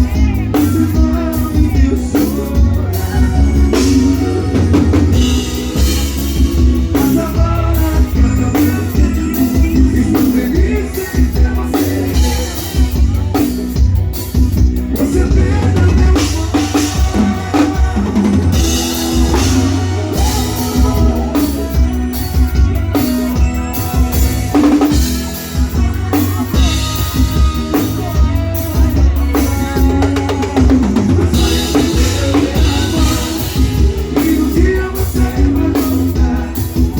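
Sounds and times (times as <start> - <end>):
drum kit kick and snare: 0.0 - 36.9
live band playing: 0.0 - 36.9.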